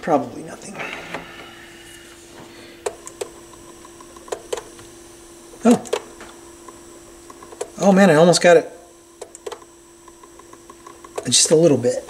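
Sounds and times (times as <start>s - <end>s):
turntable motor humming: 0.0s - 12.0s.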